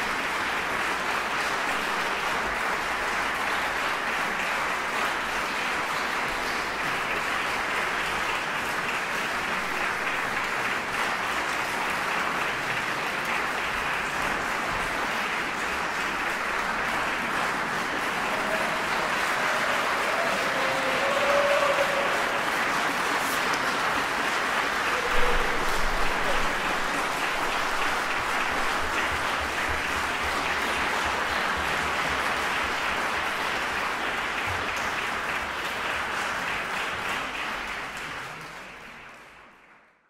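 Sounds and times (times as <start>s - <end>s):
audience applauding: 0.0s - 40.0s.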